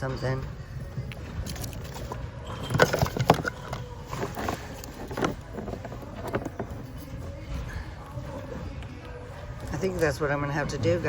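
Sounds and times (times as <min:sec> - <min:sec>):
items rummaged in a bin: 0:00.0 - 0:10.1.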